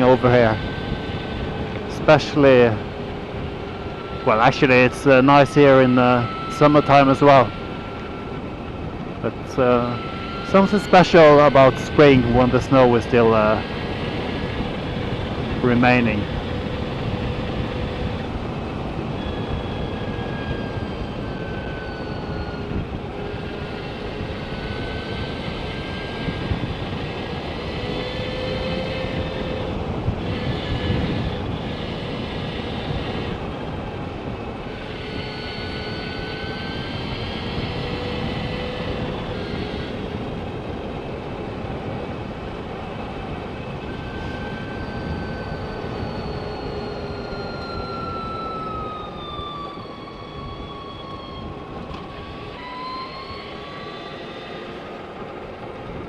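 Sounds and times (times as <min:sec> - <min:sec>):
electric motor whine: 0:00.0 - 0:56.0
wind rush on microphone: 0:00.0 - 0:56.0.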